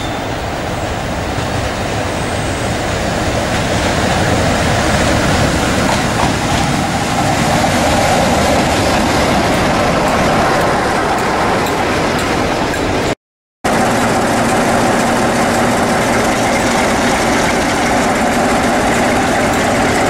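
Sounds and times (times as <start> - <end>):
diesel locomotive engine passing: 0.0 - 20.0
train wheels rolling over rails: 0.8 - 13.1, 13.7 - 20.0.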